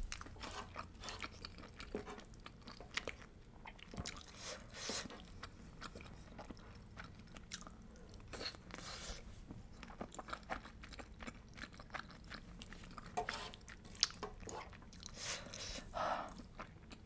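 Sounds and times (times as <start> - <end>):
person chewing pasta: 0.0 - 17.0.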